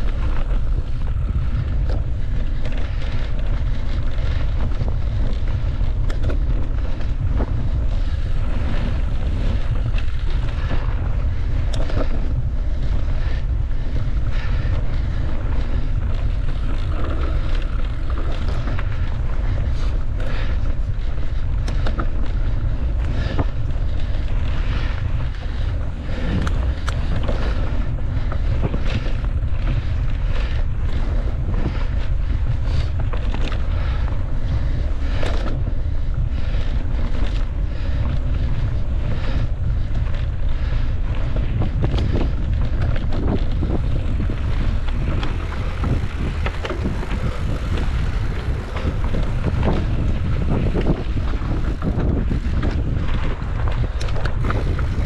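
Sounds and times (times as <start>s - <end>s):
bike rattling on rough trail: 0.0s - 55.0s
wind buffeting microphone: 0.0s - 55.0s.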